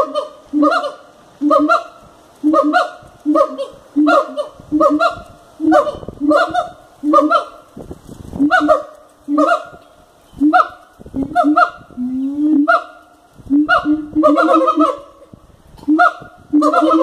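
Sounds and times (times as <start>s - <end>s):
siamangs calling: 0.0s - 7.8s, 8.4s - 17.0s.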